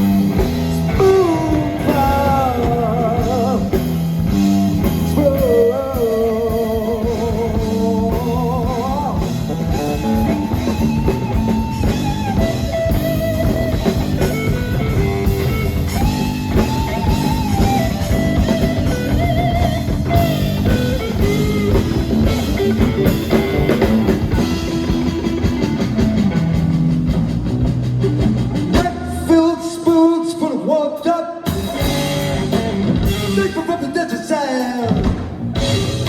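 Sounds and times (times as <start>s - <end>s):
bass guitar: 0.0s - 30.6s, 31.4s - 36.0s
drum kit: 0.0s - 30.6s, 31.4s - 36.0s
lead electric guitar: 0.0s - 36.0s.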